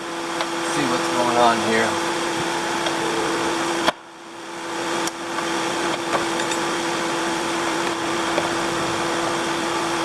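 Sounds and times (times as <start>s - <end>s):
electric fans blowing: 0.0s - 10.0s.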